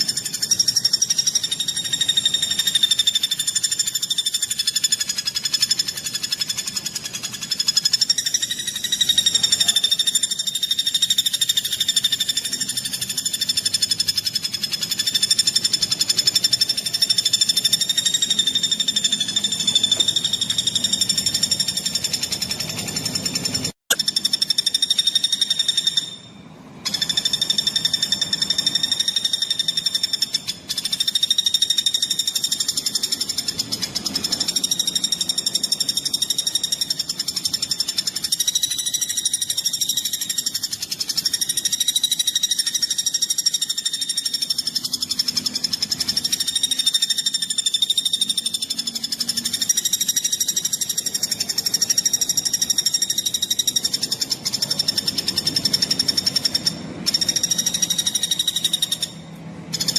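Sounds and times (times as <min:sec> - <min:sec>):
bird trilling song: 0:00.0 - 0:59.9.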